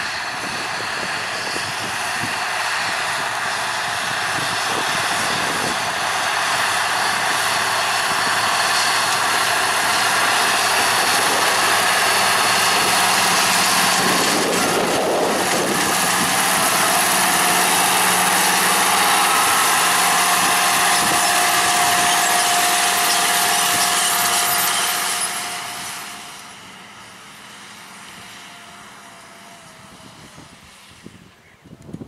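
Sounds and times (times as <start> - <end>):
high-pitched whine: 0.0 - 30.5
tractor diesel engine running: 0.0 - 31.3.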